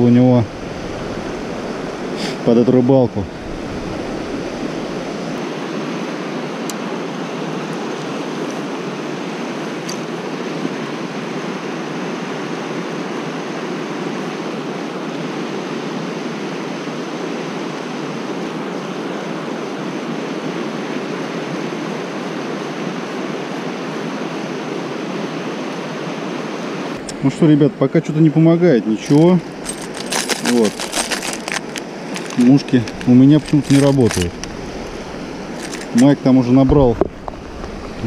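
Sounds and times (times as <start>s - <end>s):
river water rushing over rapids: 0.0s - 38.0s.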